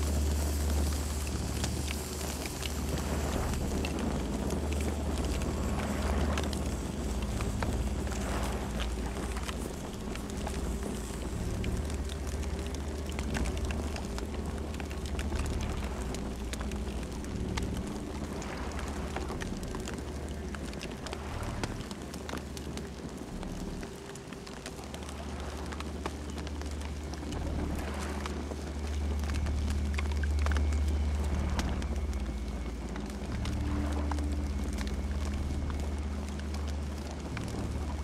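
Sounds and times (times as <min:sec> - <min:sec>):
campfire crackling and popping: 0:00.0 - 0:38.0
low fire rumble: 0:00.0 - 0:38.0.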